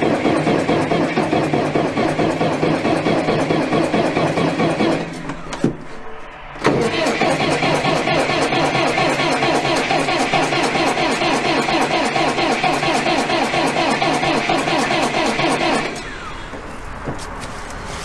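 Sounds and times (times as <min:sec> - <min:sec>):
starter cranking engine: 0:00.0 - 0:05.5, 0:06.6 - 0:16.6.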